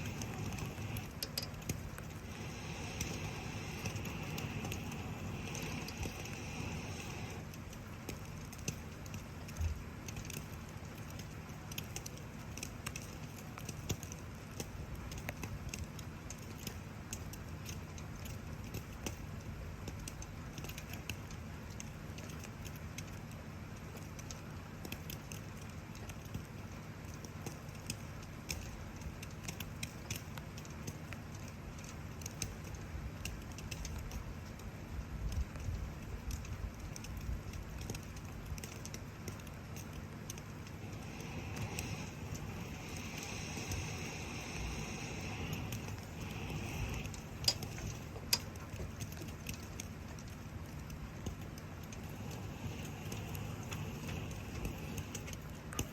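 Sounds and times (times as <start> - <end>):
low rumble of recording noise: 0.0 - 55.9
rain falling: 0.0 - 55.9
wood fire crackling and popping: 0.0 - 55.9.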